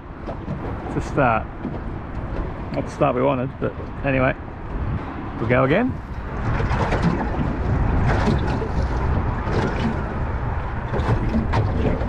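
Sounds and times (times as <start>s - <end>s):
boat rumbling: 0.0s - 12.0s.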